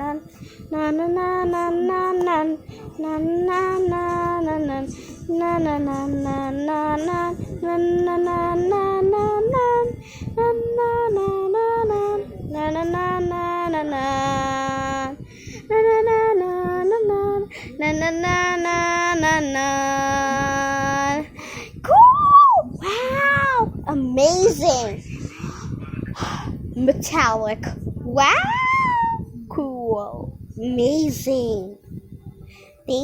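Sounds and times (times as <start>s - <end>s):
child singing wordless tune: 0.0s - 21.3s, 22.8s - 25.0s, 26.7s - 32.0s.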